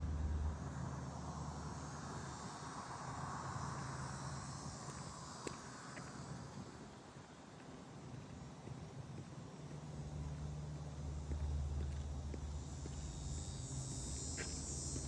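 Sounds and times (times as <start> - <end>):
continuous hiss: 0.1 - 15.0
faint insect chirr: 0.1 - 15.0.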